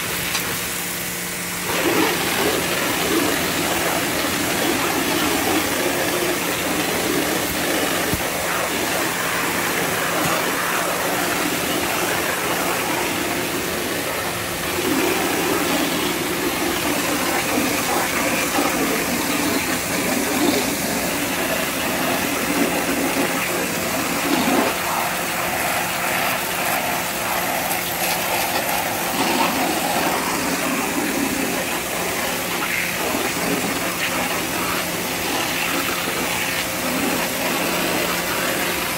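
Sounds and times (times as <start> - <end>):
pressure washer spraying siding: 0.0 - 38.9.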